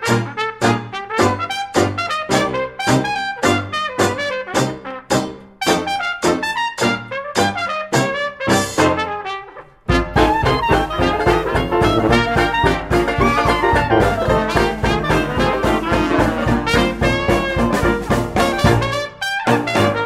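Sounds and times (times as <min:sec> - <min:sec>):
upbeat brass music: 0:00.0 - 0:20.0.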